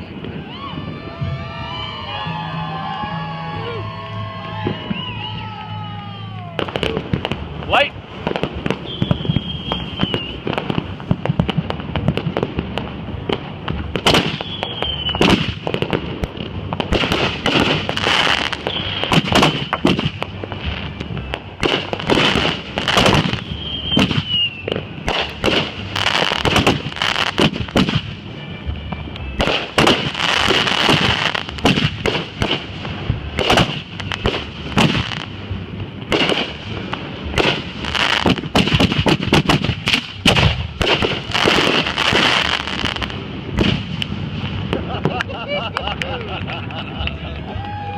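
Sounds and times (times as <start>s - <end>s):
fireworks whistling: 0.0s - 45.6s
fireworks bangs and crackles: 0.0s - 47.9s.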